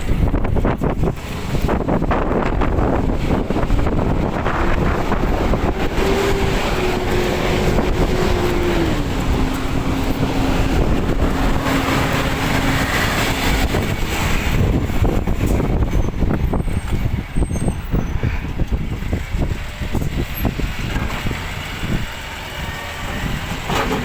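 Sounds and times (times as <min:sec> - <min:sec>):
truck engine running: 0:00.0 - 0:24.0
wind buffeting microphone: 0:00.0 - 0:24.0.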